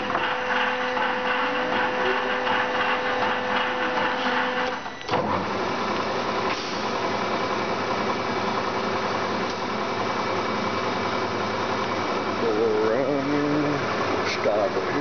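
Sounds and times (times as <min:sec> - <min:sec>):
lathe gear whine: 0:00.0 - 0:15.0.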